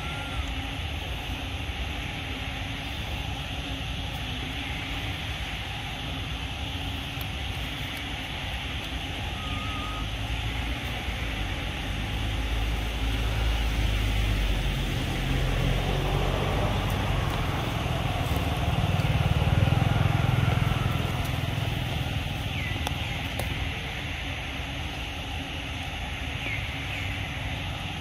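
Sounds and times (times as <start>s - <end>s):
motor engine droning: 0.0s - 25.9s.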